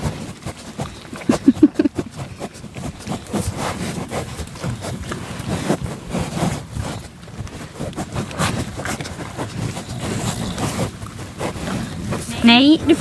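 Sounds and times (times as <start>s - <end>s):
cattle sniffing: 0.0s - 13.0s
puppy snuffling and breathing: 0.0s - 13.0s
rustling: 0.0s - 13.0s.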